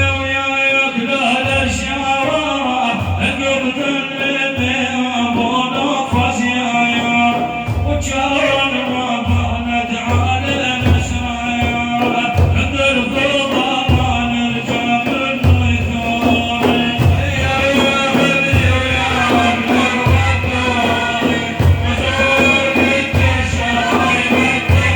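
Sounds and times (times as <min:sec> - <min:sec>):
hand drum beats: 0:00.0 - 0:24.9
person singing a devotional song: 0:00.0 - 0:24.9.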